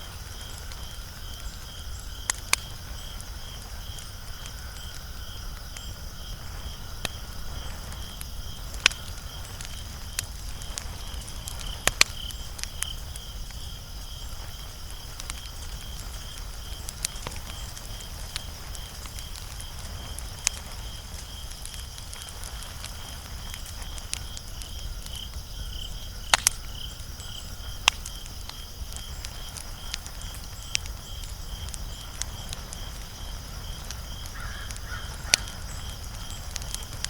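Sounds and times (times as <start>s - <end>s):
insects chirping: 0.0s - 37.0s
wood fire crackling and popping: 0.0s - 37.0s.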